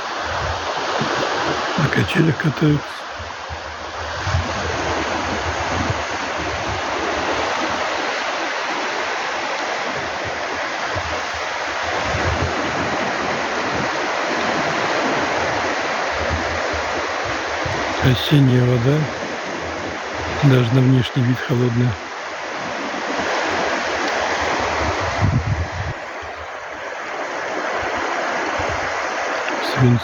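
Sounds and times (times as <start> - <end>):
wind buffeting microphone: 0.0 - 1.8, 3.1 - 20.4, 22.0 - 30.0
water rushing: 0.0 - 30.0.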